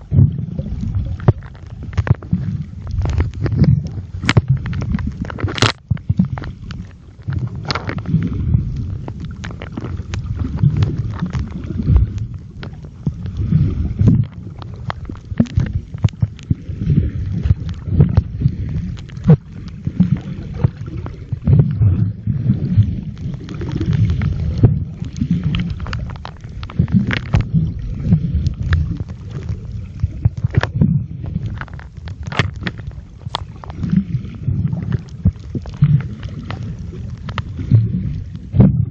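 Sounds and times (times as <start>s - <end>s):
muffled underwater water rumble: 0.0s - 38.9s.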